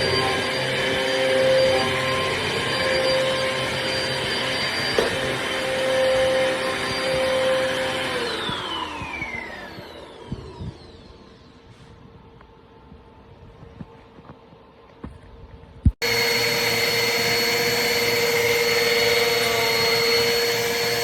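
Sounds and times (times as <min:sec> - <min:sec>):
vacuum cleaner motor whine: 0:00.0 - 0:13.1, 0:16.0 - 0:21.0.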